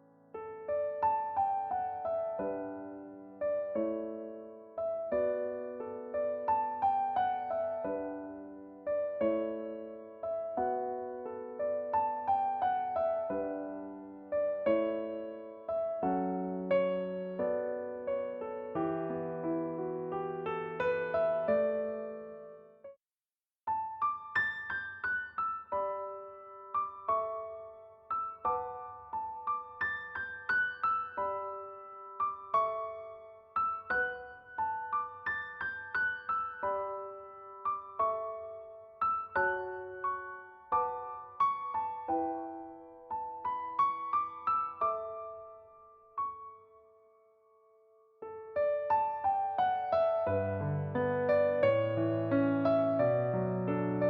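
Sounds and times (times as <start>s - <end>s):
electric piano music: 0.0s - 23.0s, 23.7s - 54.0s.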